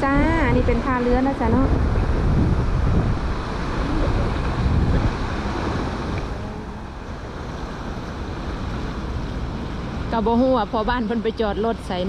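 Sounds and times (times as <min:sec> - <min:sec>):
sea surf rushing: 0:00.0 - 0:12.0
wind buffeting microphone: 0:00.0 - 0:12.0.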